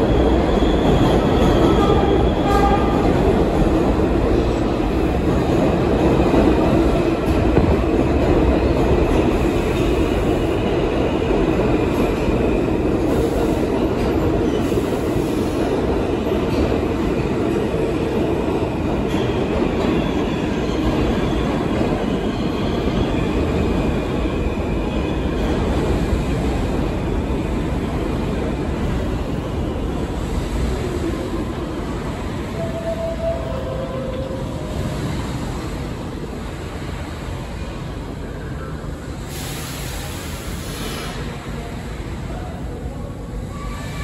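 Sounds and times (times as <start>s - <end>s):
subway train wheels rumbling on rails: 0.0s - 44.0s.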